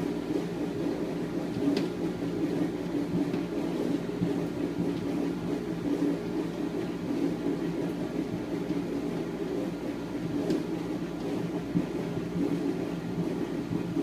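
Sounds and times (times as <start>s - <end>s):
dishwasher motor hum: 0.0s - 14.0s.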